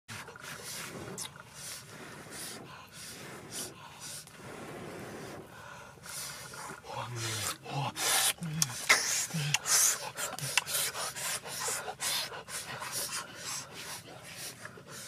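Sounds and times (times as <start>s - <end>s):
man blowing breathy puffs: 0.6s - 15.0s.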